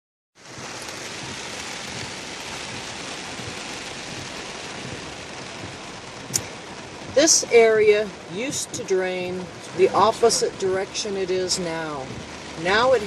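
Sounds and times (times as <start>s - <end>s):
rain falling: 0.4s - 13.0s.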